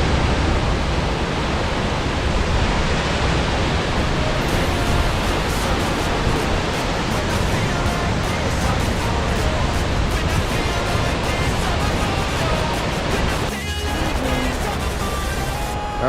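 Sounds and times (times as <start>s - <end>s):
waterfall rushing into pool: 0.0s - 16.0s.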